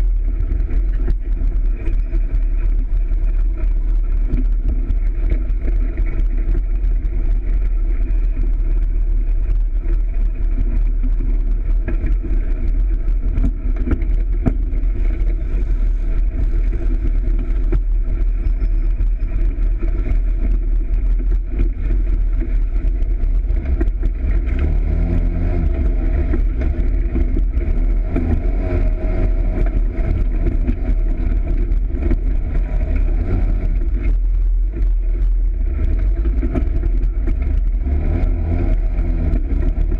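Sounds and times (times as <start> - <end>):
off-road vehicle engine running: 0.0 - 39.9
vehicle rattles: 0.0 - 39.9.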